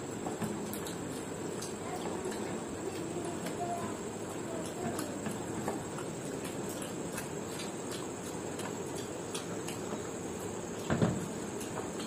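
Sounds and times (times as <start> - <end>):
mouths chewing: 0.0 - 12.0.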